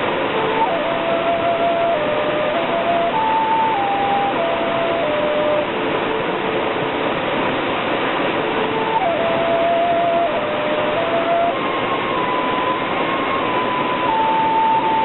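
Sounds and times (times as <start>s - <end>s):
flute playing slow melody: 0.0s - 7.0s, 8.4s - 15.0s
waterfall rushing: 0.0s - 15.0s.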